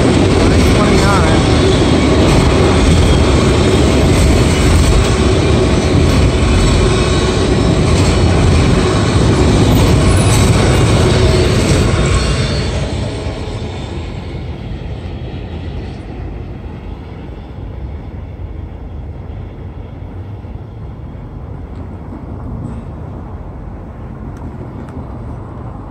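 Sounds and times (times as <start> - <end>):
freight train rumble: 0.0 - 25.9.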